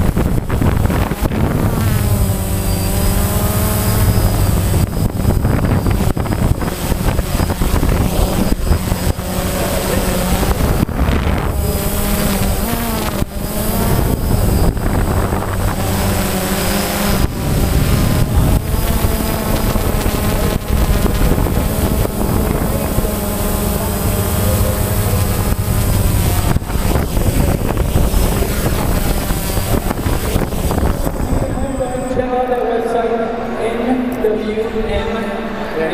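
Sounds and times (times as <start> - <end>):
drone propellers buzzing: 0.0 - 32.7.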